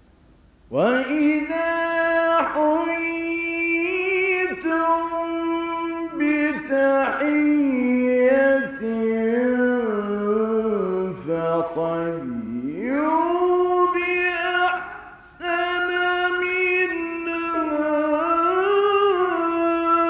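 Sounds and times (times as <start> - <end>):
man reciting melodically: 0.7 - 20.0.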